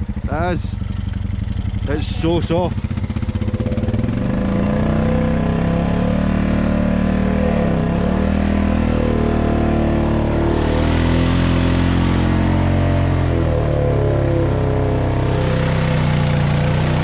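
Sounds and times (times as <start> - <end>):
quad bike engine running: 0.0 - 17.0.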